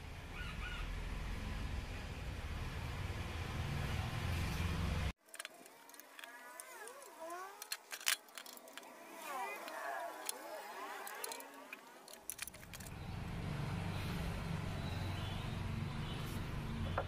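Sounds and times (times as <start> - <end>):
low rumble of outdoor noise: 0.0 - 17.0.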